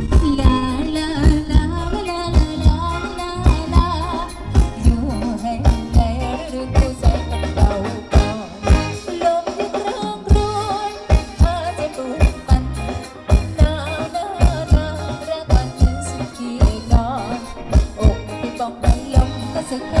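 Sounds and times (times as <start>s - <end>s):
steady drum beat: 0.0s - 20.0s.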